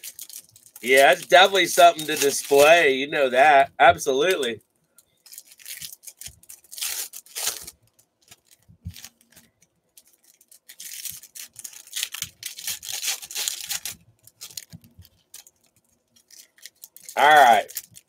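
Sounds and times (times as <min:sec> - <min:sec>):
wrappers tearing and crinkling: 0:00.0 - 0:03.0, 0:05.2 - 0:18.0.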